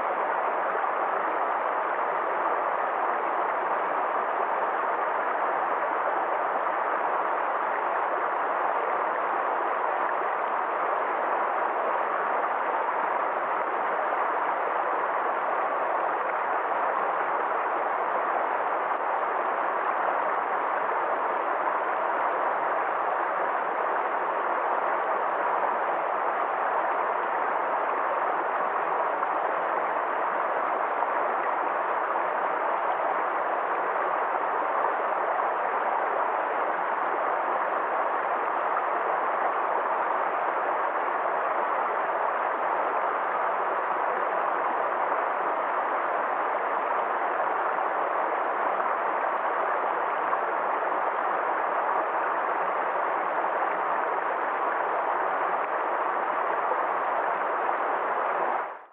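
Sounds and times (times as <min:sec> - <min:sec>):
stream rushing over rocks: 0:00.0 - 0:58.9.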